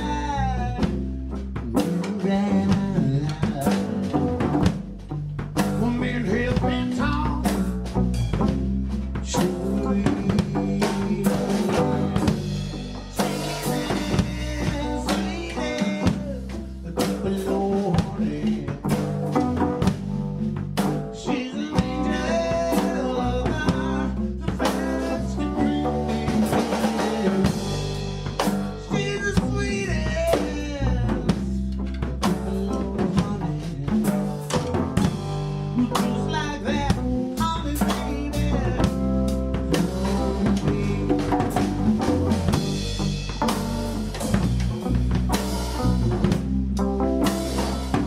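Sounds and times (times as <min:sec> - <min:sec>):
person singing: 0:00.0 - 0:01.1, 0:01.8 - 0:04.4, 0:05.6 - 0:07.7, 0:09.2 - 0:19.6, 0:20.8 - 0:43.1
drum kit beat: 0:00.0 - 0:48.0
guitar: 0:00.0 - 0:48.0.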